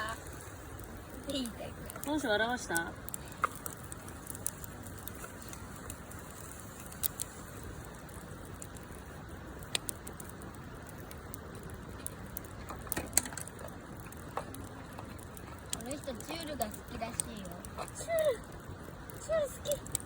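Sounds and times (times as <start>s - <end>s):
fire crackling pops: 0.0s - 20.0s
wood fire hissing: 0.0s - 20.0s.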